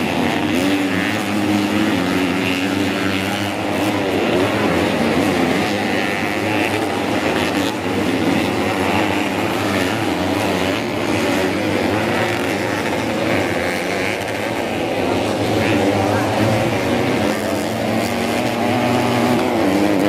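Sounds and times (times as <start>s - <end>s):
motorcycle engines racing: 0.0s - 20.0s.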